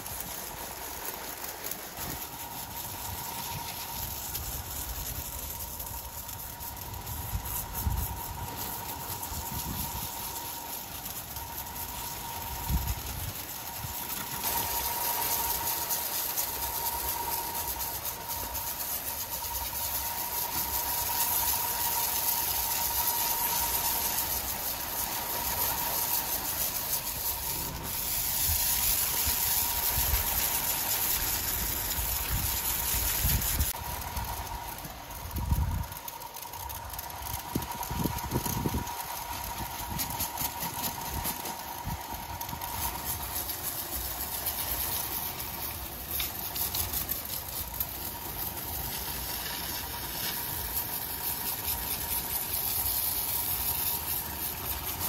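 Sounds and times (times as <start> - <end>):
sawmill machinery whine: 0.0 - 55.0.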